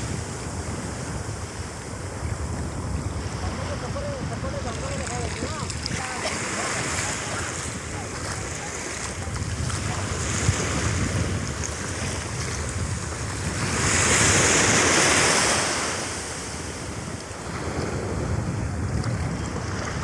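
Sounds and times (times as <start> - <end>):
surf washing in shallows: 0.0 - 20.0
wind buffeting microphone: 0.0 - 20.0.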